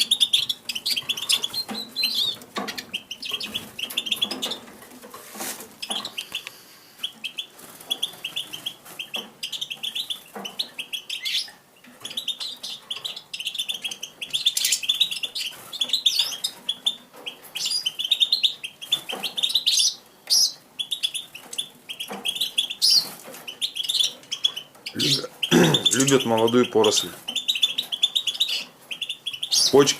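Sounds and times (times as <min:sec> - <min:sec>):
songbird chirping: 0:00.0 - 0:29.9.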